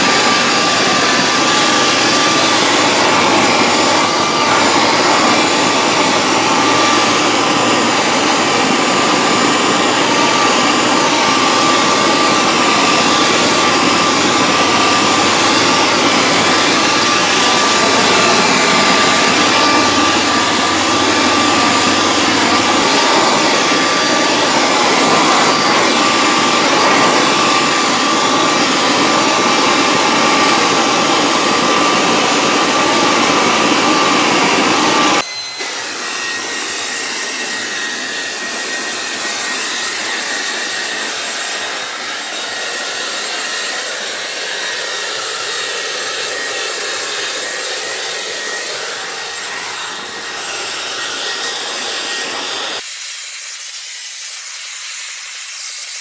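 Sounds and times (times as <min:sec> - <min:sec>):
distant blower whine: 0:00.0 - 0:52.8
leaf blower rushing air: 0:00.0 - 0:55.1.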